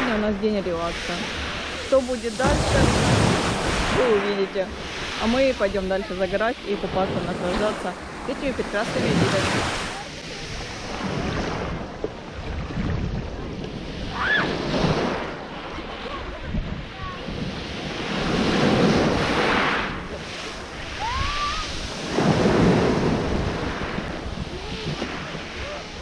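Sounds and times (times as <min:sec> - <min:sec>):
waves washing over pebbles: 0:00.0 - 0:26.0
wind buffeting microphone: 0:00.0 - 0:26.0.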